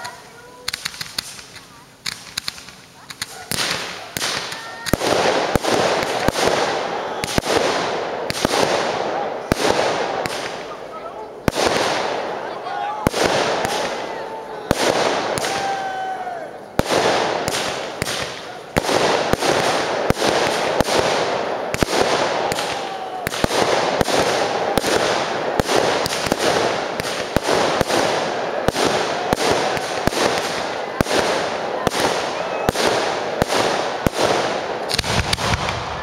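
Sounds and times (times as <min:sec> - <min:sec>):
firework bursts and bangs: 0:00.0 - 0:36.0
firework crackle: 0:00.0 - 0:36.0.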